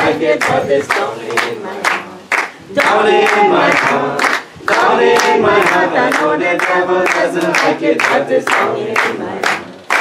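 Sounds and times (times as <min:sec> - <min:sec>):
group singing devotional song: 0:00.0 - 0:10.0
hand-clapping: 0:00.0 - 0:10.0.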